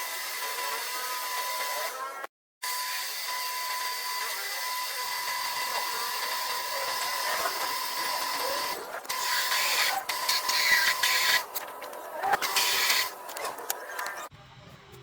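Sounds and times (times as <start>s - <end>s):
power tool motor whining: 0.0s - 14.3s.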